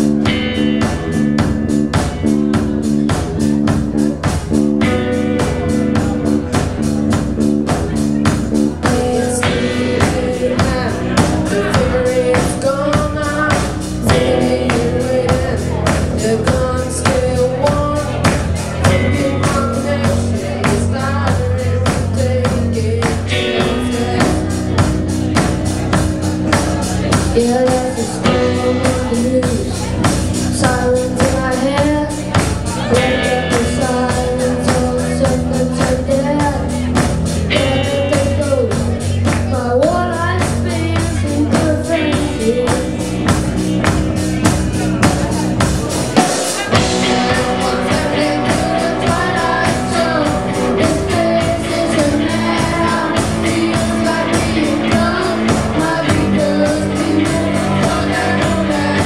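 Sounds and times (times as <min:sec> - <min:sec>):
bass guitar: 0:00.0 - 0:59.0
drum kit beat: 0:00.0 - 0:59.0
electric guitars: 0:00.0 - 0:59.0
person singing lead vocal: 0:00.0 - 0:59.0.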